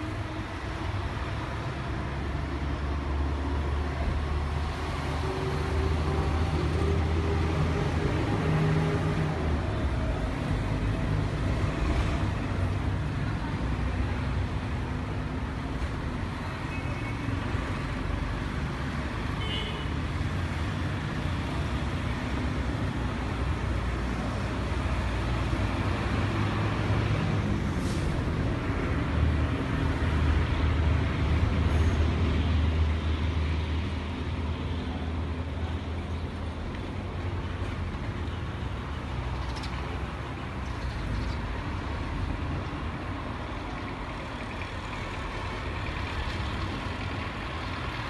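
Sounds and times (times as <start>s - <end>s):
heavy vehicle engine rumble: 0.0s - 48.0s
street traffic: 0.0s - 48.0s.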